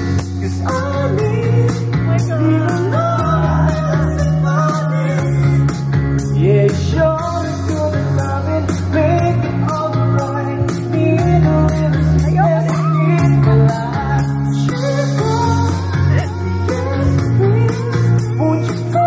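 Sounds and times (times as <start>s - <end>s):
amplified pop music: 0.0s - 19.0s
man singing into microphone: 0.0s - 19.0s.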